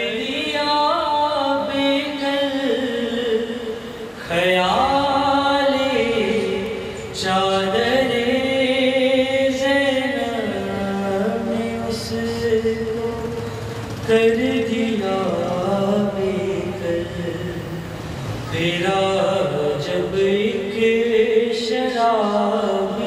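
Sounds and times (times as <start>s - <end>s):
man chanting unaccompanied: 0.0s - 23.0s.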